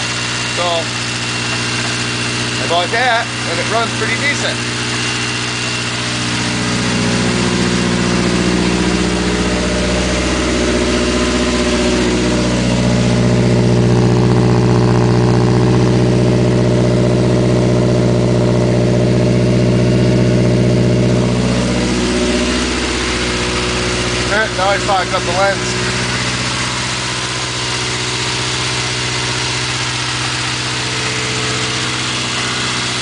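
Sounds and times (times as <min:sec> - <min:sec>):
car engine fast idle: 0:00.0 - 0:33.0.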